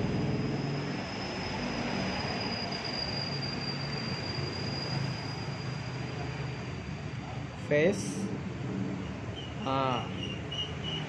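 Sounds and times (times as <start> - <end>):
engine drone: 0.0 - 11.0
high-pitched whine: 0.0 - 11.0.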